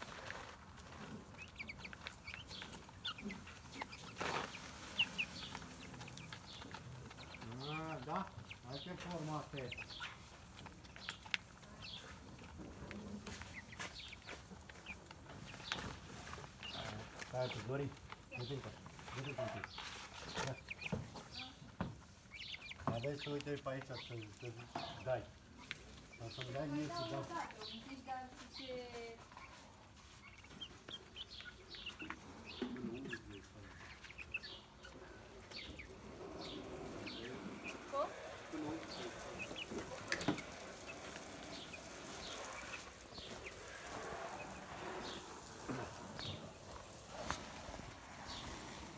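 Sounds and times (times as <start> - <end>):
chicks cheeping: 0.0 - 48.9.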